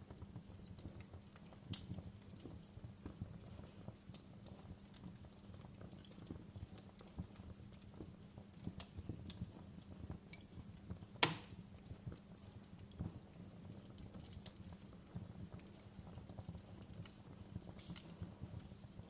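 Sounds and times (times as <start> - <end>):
fire crackling: 0.9 - 19.0.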